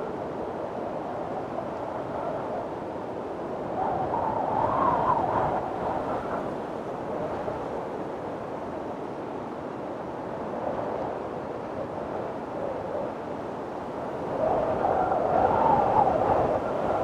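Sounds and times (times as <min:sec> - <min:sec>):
strong wind blowing: 0:00.0 - 0:09.1, 0:10.2 - 0:17.0.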